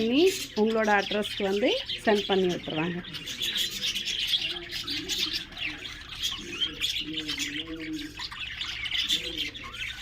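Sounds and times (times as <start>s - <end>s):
lovebirds chirping: 0.0s - 10.0s.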